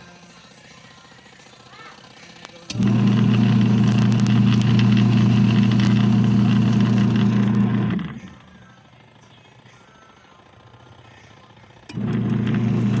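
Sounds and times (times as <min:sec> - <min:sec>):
washing machine motor humming: 0:02.0 - 0:13.0.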